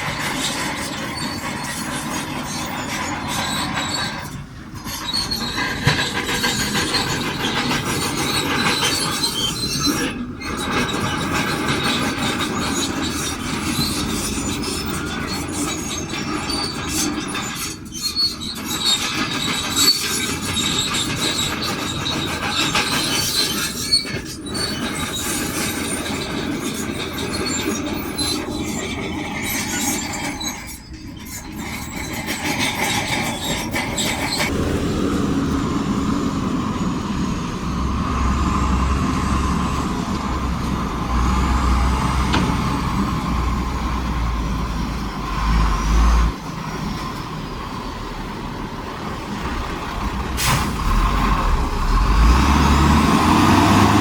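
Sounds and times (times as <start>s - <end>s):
diesel engine running: 0.0s - 17.6s, 18.7s - 54.0s
steel tracks squealing and clanking: 0.0s - 54.0s.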